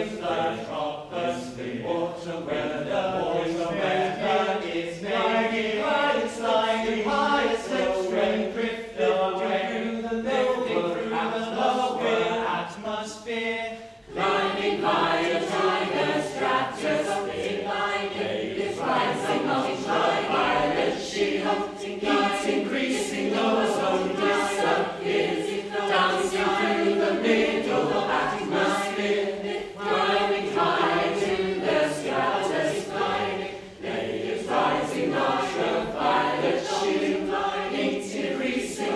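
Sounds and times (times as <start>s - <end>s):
choir singing: 0.0s - 38.9s.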